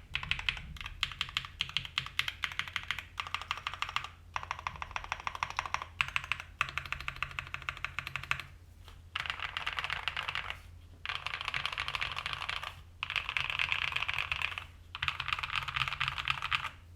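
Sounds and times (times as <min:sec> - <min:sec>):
mechanical keyboard typing: 0:00.1 - 0:08.5, 0:09.2 - 0:16.8.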